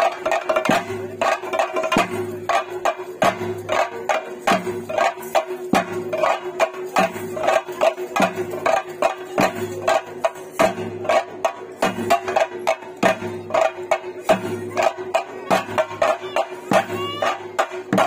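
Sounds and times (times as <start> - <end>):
drums beaten in fast rhythm: 0.0 - 18.0.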